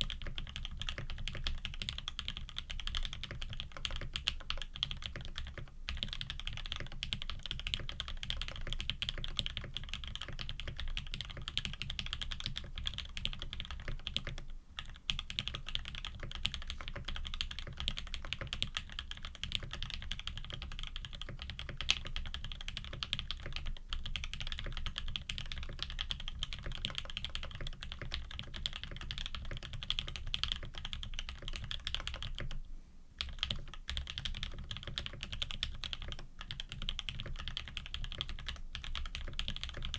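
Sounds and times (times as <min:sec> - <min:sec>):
mechanical keyboard typing: 0:00.0 - 0:32.6, 0:33.2 - 0:39.9.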